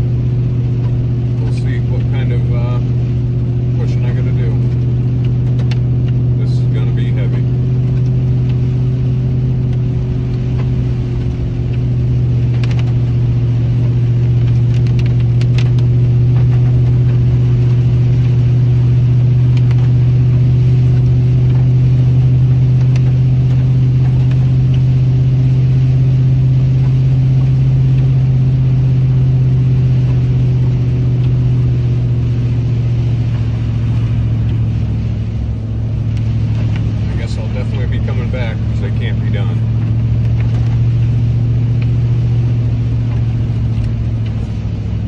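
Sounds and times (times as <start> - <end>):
truck engine drone from inside cab: 0.0 - 45.0.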